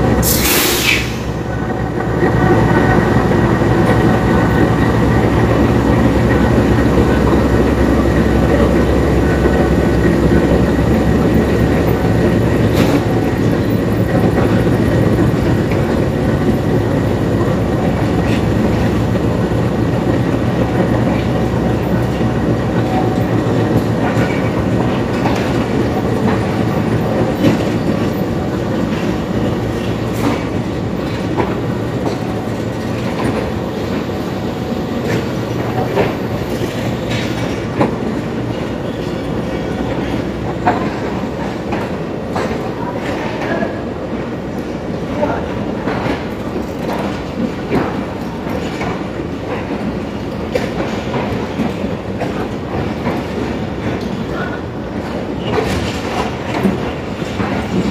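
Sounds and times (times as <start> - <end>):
train rumbling: 0.0 - 57.9
wheels clacking over rail joints: 1.8 - 57.9.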